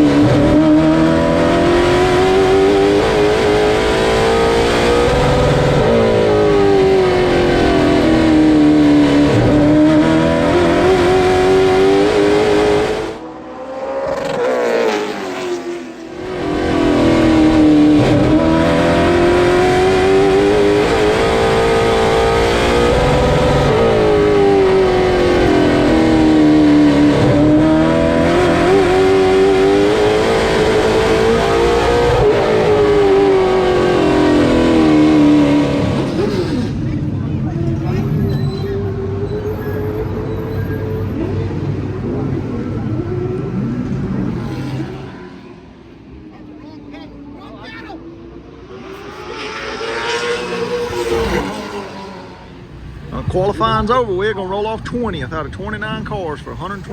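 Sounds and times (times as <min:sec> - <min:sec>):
race car engine at speed: 0:00.0 - 0:56.9.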